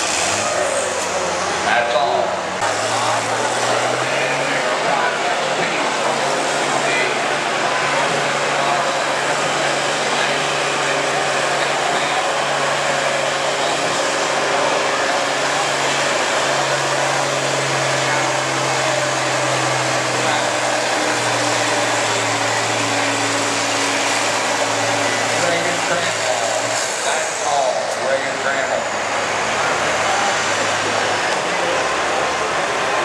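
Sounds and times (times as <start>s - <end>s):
diesel tractor engine under load: 0.0s - 33.0s.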